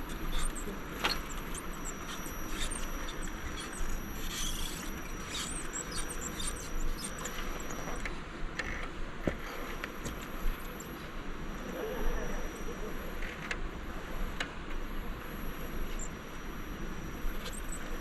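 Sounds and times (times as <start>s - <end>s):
small electric motor whirring: 0.0s - 18.0s.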